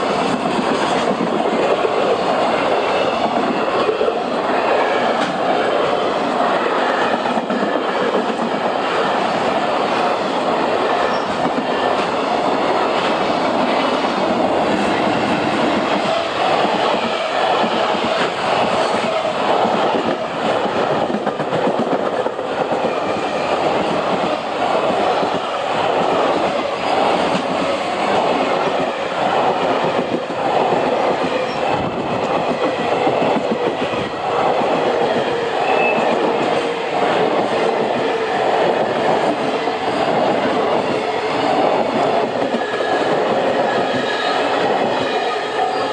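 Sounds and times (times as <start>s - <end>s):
freight train rumble: 0.0s - 45.9s.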